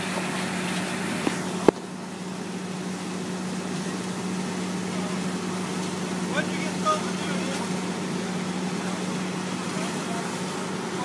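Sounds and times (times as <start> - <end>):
engine hum: 0.0 - 11.0
fire hose stream rushing: 0.0 - 11.0.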